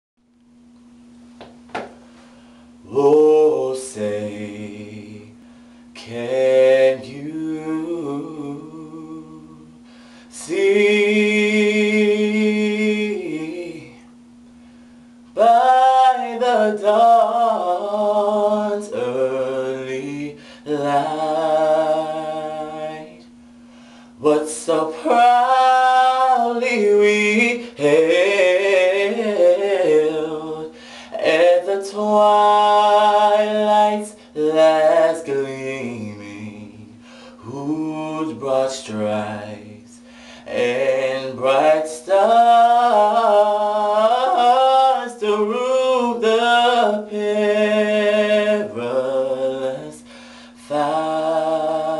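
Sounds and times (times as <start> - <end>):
steady low hum: 0.2 - 51.9
man singing unaccompanied: 2.8 - 14.1, 15.3 - 23.4, 24.1 - 51.9.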